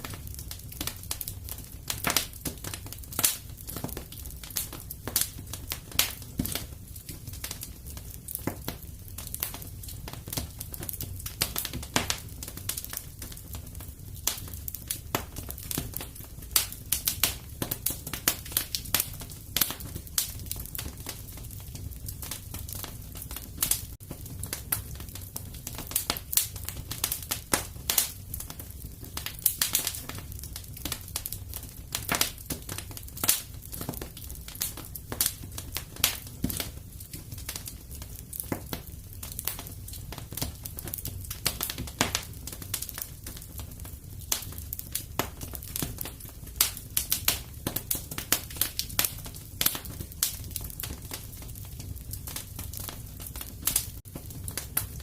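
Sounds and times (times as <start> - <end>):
fire crackles and pops: 0.0 - 55.0
wood fire rumbling: 0.0 - 55.0.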